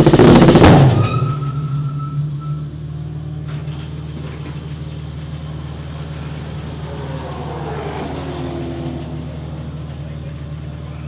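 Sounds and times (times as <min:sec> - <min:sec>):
low engine note: 0:00.0 - 0:11.0.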